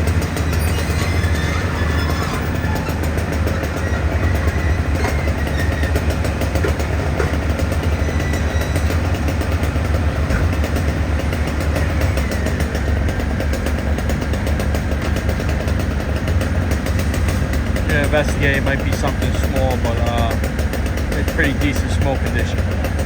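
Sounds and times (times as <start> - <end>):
large engine idling: 0.0 - 23.0.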